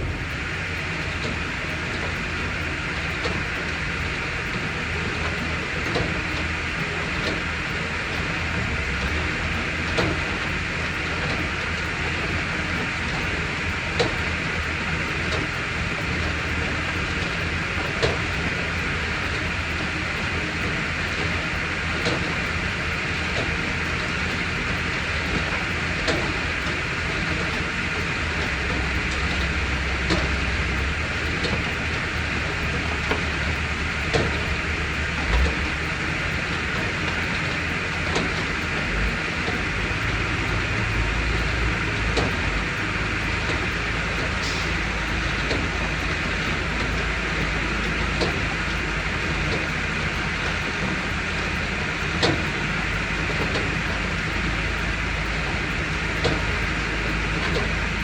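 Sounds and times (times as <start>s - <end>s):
machinery engines idling: 0.0s - 58.0s.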